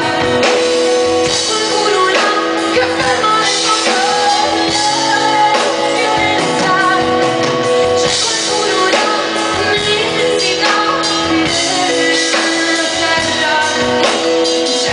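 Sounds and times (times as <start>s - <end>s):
live pop-rock band playing: 0.0s - 14.9s
person singing: 0.0s - 14.9s.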